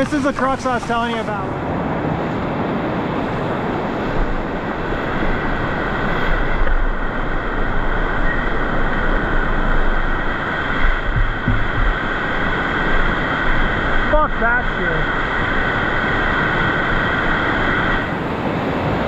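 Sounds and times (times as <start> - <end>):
microphone wind rumble: 0.0 - 19.0
whitewater rushing: 0.0 - 19.0.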